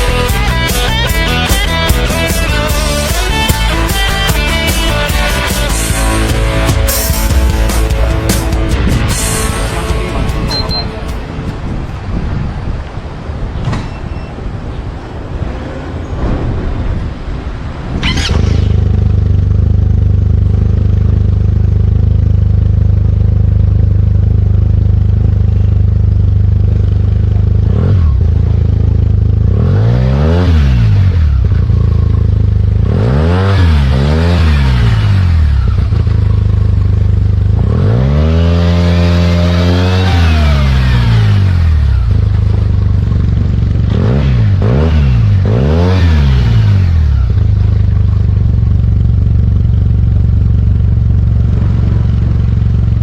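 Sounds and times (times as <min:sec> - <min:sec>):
scooter engine idling and revving: 0:00.0 - 0:13.4, 0:18.0 - 0:53.0.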